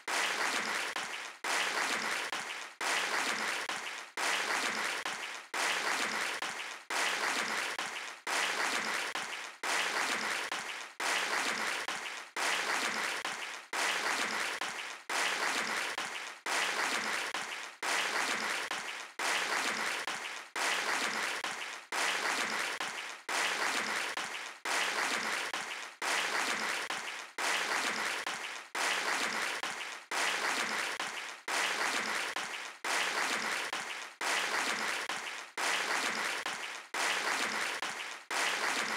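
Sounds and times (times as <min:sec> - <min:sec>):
looped audience applause: 0:00.0 - 0:38.9.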